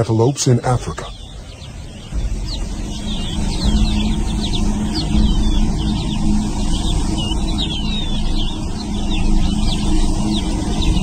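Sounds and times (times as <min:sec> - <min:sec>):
faint hum: 0:00.0 - 0:11.0
small birds chirping: 0:00.0 - 0:11.0
low rumble: 0:00.8 - 0:11.0.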